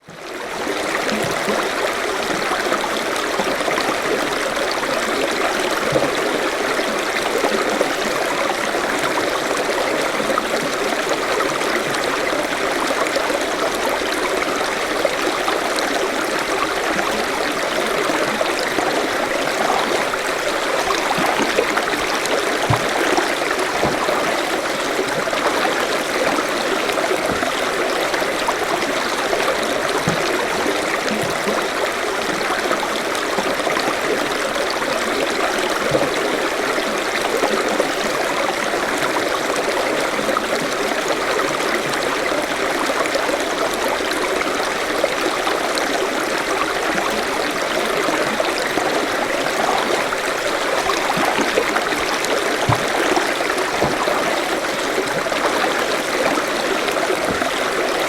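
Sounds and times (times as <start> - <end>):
stream babbling over stones: 0.1 - 58.0.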